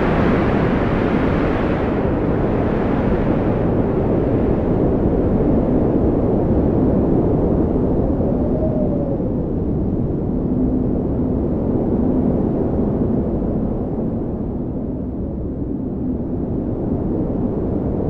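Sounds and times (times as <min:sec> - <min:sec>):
strong wind blowing: 0:00.0 - 0:18.0.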